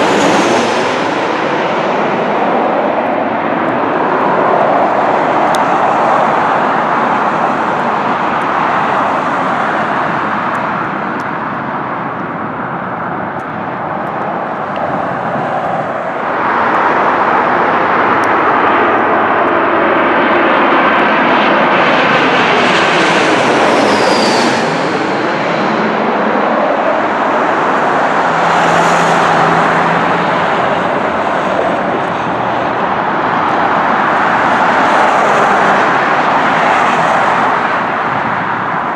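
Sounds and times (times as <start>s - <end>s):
jet engines running: 0.0s - 38.9s
jet whine passing overhead: 0.0s - 38.9s.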